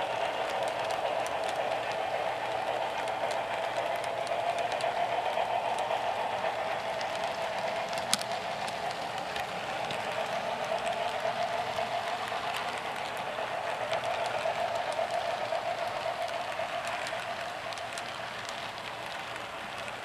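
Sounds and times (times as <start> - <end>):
light clicks of wheels: 0.0 - 20.0
model train wheels rolling: 0.0 - 20.0.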